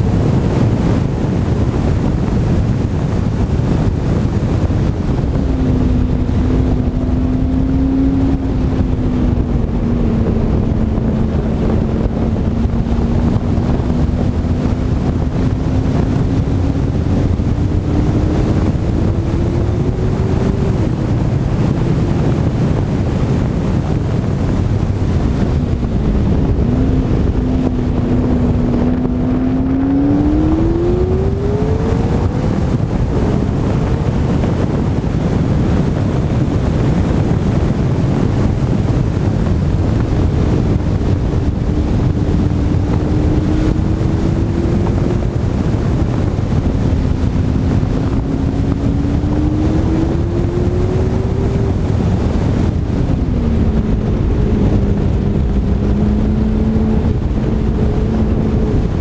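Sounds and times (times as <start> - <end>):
road rumble: 0.0 - 59.0
sports car engine: 0.0 - 59.0
wind on microphone: 0.0 - 59.0.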